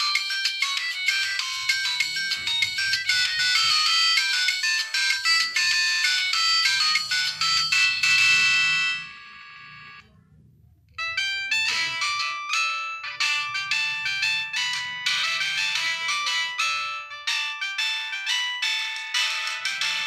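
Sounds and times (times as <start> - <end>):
polyphonic phone ringtone: 0.0 - 10.0, 11.0 - 20.0.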